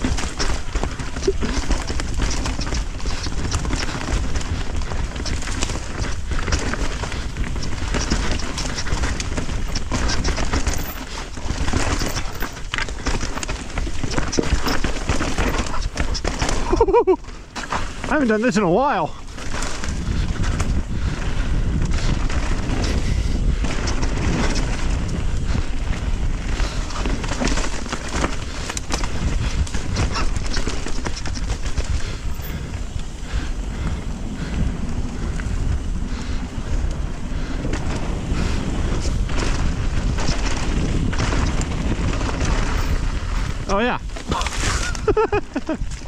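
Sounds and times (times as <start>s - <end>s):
bike rattling over rough ground: 0.0s - 46.0s
wind buffeting microphone: 0.0s - 46.0s.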